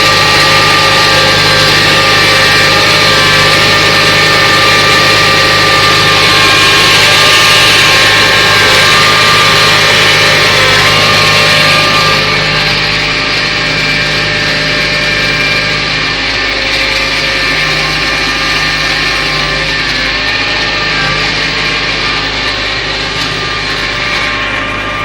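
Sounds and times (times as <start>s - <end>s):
machinery whining tones: 0.0s - 25.0s
tractor engine running: 0.0s - 25.0s.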